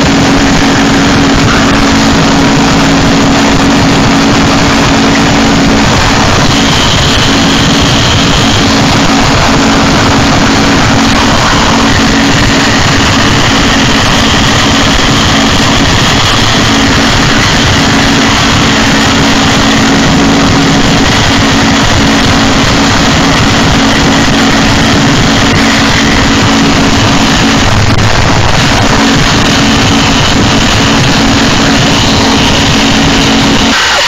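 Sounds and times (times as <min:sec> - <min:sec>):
harsh distorted noise music: 0:00.0 - 0:34.0.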